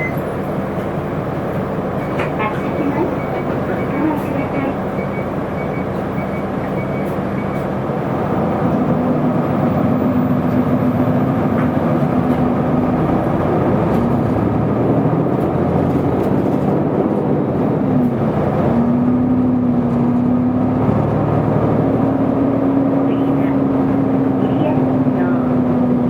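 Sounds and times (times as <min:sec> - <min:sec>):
bus engine humming: 0:00.0 - 0:26.0
road noise: 0:00.0 - 0:26.0.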